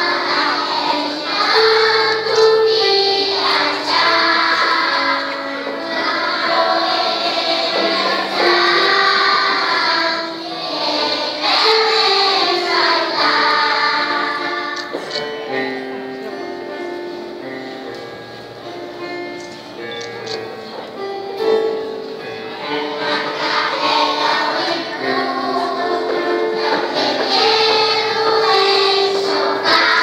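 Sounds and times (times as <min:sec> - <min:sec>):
children's choir singing: 0:00.0 - 0:19.8, 0:20.4 - 0:30.0
instrumental accompaniment: 0:00.0 - 0:30.0.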